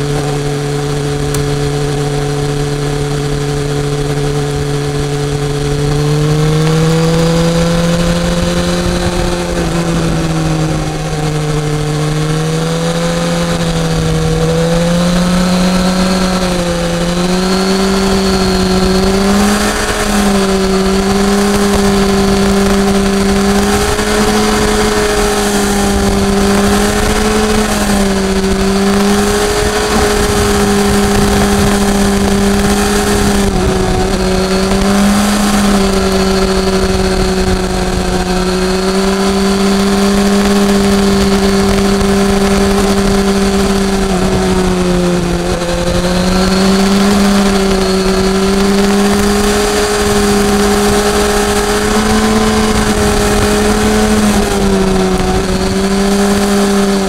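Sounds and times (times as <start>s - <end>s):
motorcycle engine running: 0.0s - 57.0s
wind noise: 0.0s - 57.0s.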